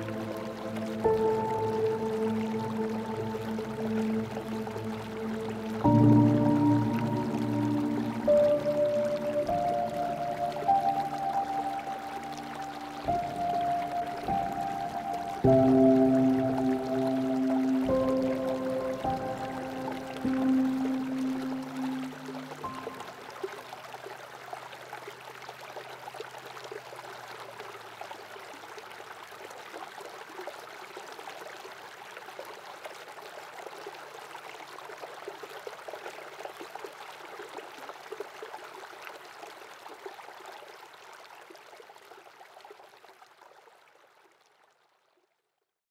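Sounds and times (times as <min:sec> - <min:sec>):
stream over pebbles: 0:00.0 - 0:45.6.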